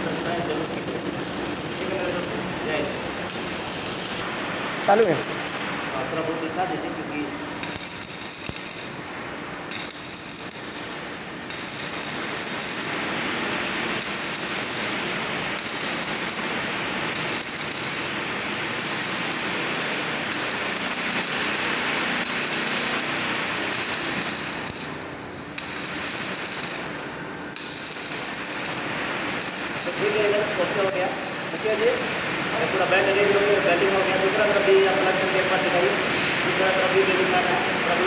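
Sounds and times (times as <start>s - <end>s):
arc welding crackling sizzle: 0.0s - 38.0s.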